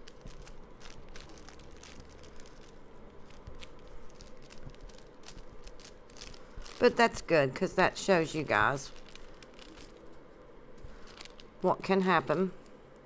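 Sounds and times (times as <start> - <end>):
hands handling clay: 0.0 - 7.3, 8.3 - 11.6.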